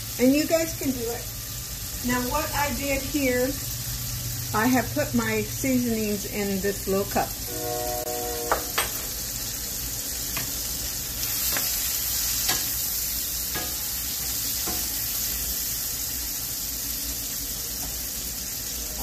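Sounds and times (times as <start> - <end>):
vegetables sizzling in butter: 0.0 - 19.0.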